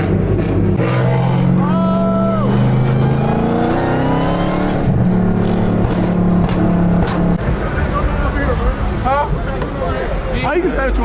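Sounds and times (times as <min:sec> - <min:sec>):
car engine rumbling and revving: 0:00.0 - 0:11.0.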